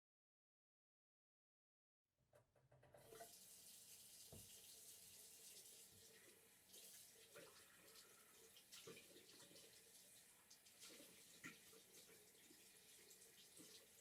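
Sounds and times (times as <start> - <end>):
faint running water: 2.7 - 14.0.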